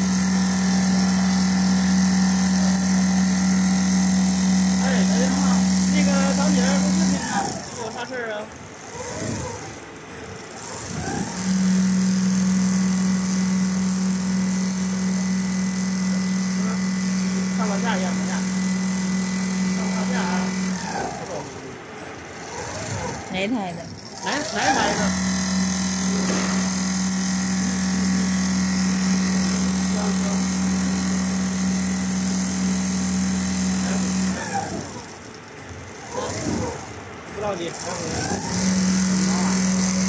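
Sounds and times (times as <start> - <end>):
sewing machine hum and whine: 0.0 - 40.0.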